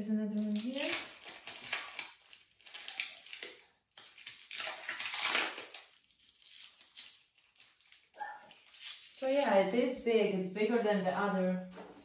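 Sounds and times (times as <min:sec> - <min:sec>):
plastic packaging crinkling: 0:00.4 - 0:10.5.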